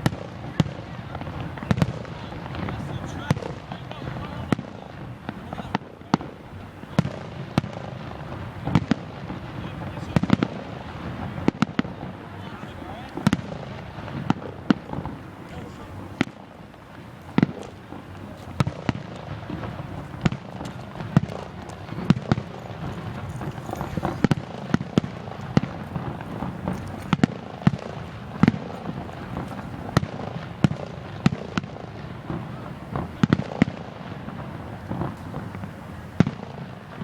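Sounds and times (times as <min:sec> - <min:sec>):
continuous rumble: 0:00.0 - 0:37.0
fireworks banging: 0:00.0 - 0:37.0.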